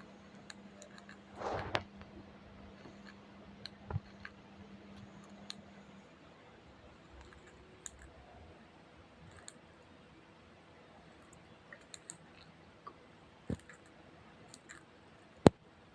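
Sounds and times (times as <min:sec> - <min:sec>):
low room noise: 0:00.0 - 0:15.9.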